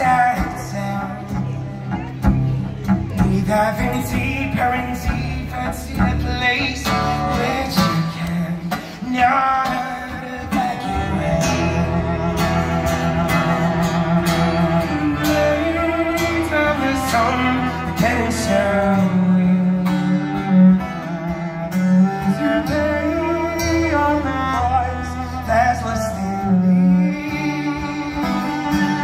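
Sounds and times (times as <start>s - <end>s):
guitar: 0.0s - 29.0s
man singing: 0.0s - 29.0s.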